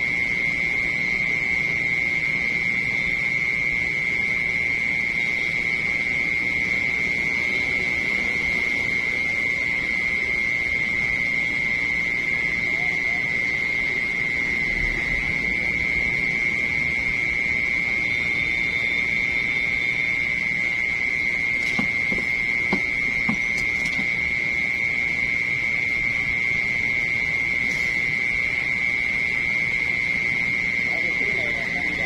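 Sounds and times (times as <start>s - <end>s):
high-pitched buzzing tone: 0.0s - 32.0s.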